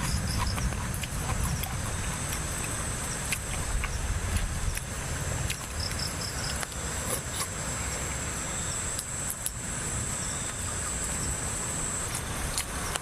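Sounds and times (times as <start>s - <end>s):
low rushing background noise: 0.0s - 13.0s.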